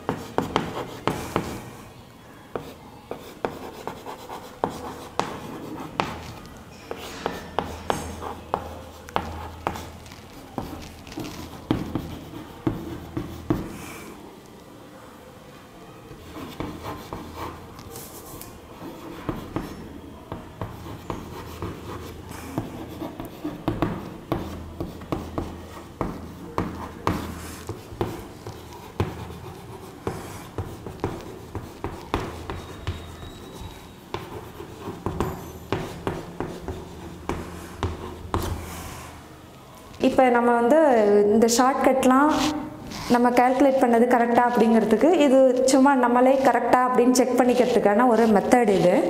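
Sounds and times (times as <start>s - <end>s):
chalk writing on a chalkboard: 0.0s - 1.8s, 2.5s - 14.2s, 16.1s - 39.2s, 42.2s - 43.2s, 47.4s - 49.0s.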